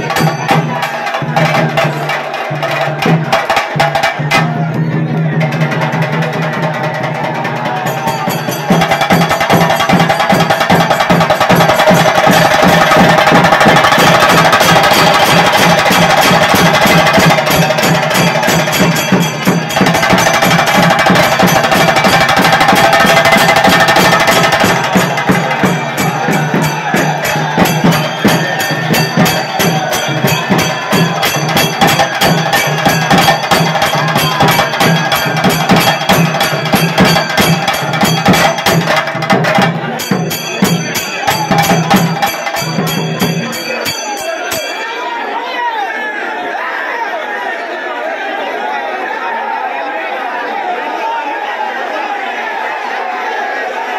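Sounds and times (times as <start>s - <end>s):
drums beaten with sticks: 0.0s - 44.8s
crowd shouting: 0.0s - 53.9s.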